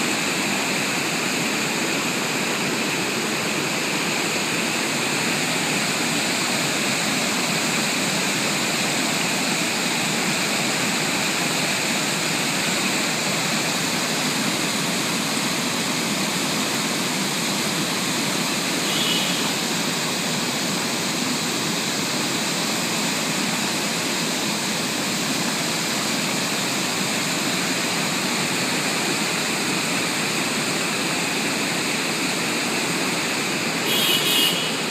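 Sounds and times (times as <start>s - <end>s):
water rushing over weir: 0.0s - 34.9s.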